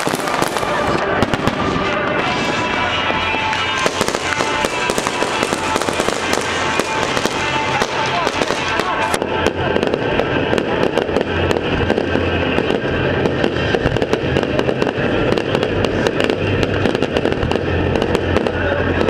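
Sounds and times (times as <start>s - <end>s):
fireworks crackling and popping: 0.0s - 19.0s.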